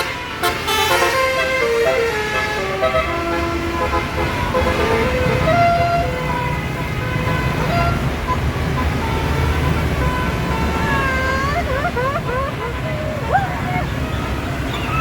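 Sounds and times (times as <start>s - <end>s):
bus horn playing a tune: 0.0s - 13.1s
bus engine running: 0.0s - 15.0s.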